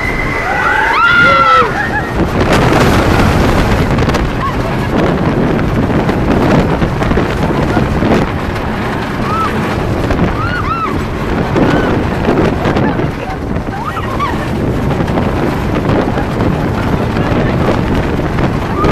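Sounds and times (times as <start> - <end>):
roller coaster rumbling on track: 0.0 - 18.9
wind buffeting microphone: 0.0 - 18.9.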